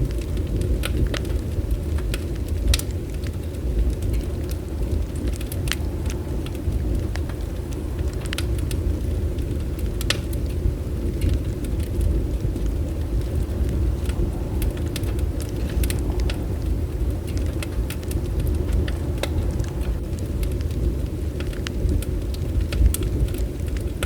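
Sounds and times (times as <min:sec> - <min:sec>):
bonfire crackling and popping: 0:00.0 - 0:24.0
fire low rumble: 0:00.0 - 0:24.0.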